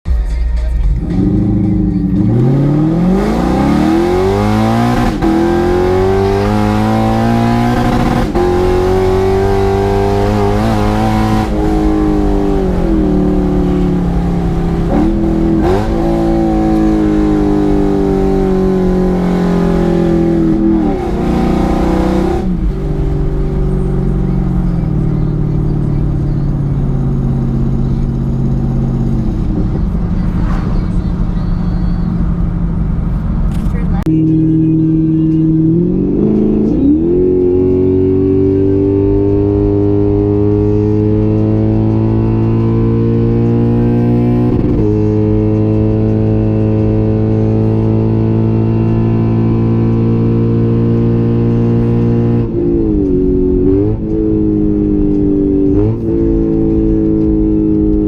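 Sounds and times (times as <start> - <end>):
car engine accelerating hard: 1.0 - 58.0.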